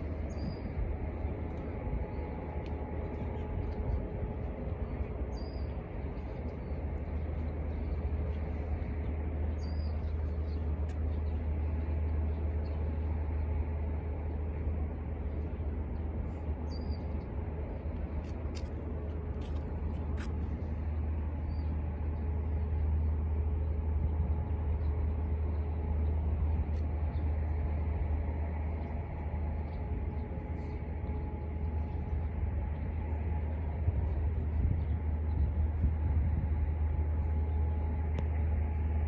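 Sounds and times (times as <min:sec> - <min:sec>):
low outdoor rumble: 0:00.0 - 0:39.0.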